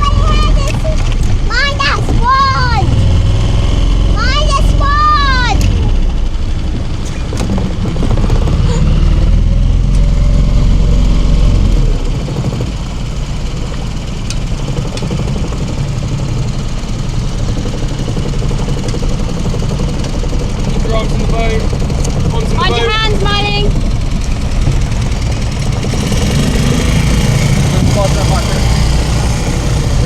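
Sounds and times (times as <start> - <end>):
motorboat engine running: 0.0 - 30.0.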